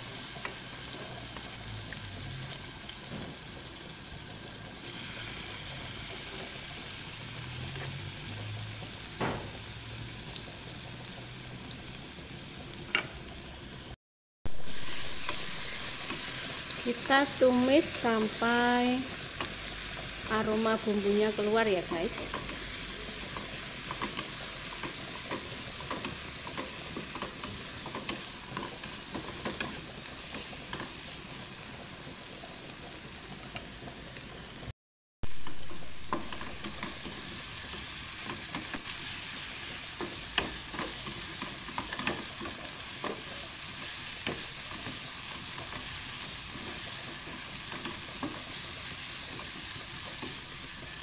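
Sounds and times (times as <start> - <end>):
paste sizzling in oil: 0.0 - 51.0.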